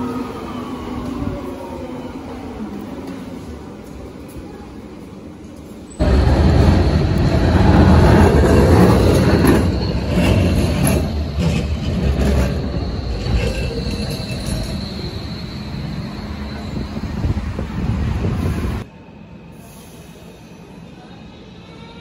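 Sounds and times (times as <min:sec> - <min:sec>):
tram wheels rumbling on rail: 0:00.0 - 0:19.0.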